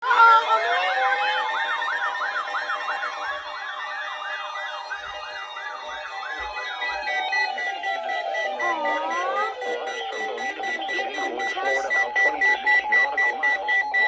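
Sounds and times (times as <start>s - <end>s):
electronic siren yelp and wail: 0.0s - 14.0s.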